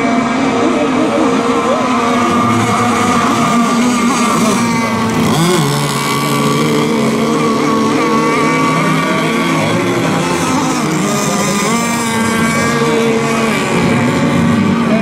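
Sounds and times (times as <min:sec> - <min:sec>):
high-revving boat motors: 0:00.0 - 0:15.0.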